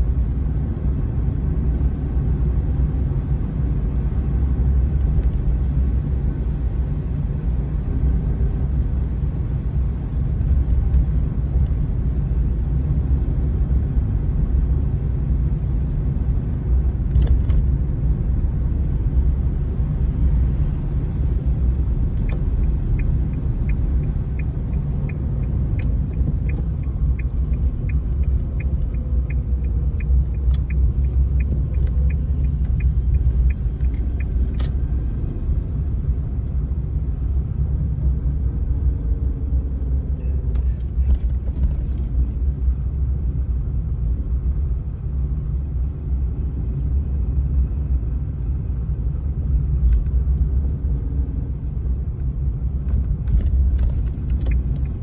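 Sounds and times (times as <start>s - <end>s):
car interior rumble: 0.0s - 55.0s.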